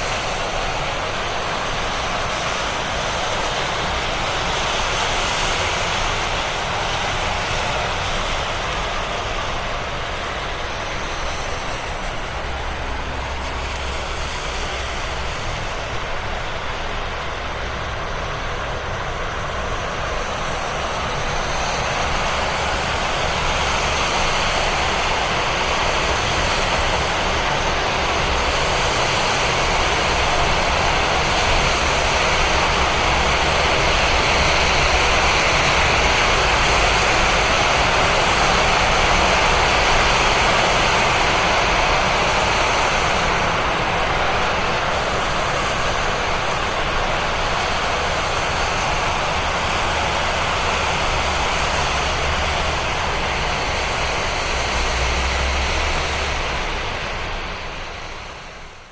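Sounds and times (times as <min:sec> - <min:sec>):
tyres hissing on wet road: 0:00.0 - 0:58.9.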